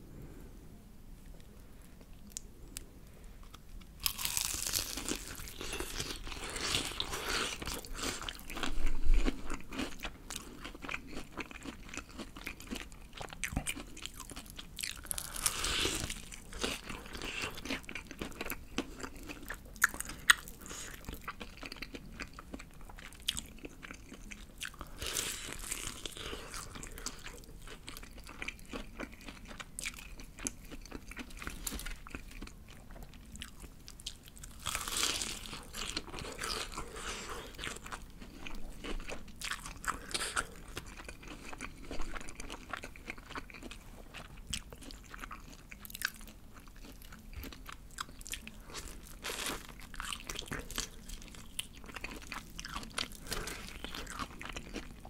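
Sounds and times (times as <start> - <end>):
crunching fried chicken: 3.4 - 55.0.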